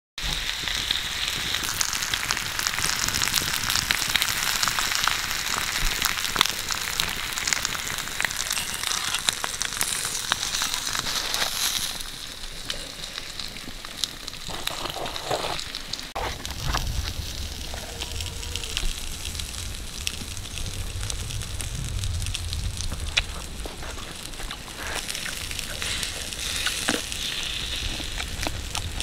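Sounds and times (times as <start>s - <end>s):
meat sizzling on hot stone: 0.2s - 29.0s.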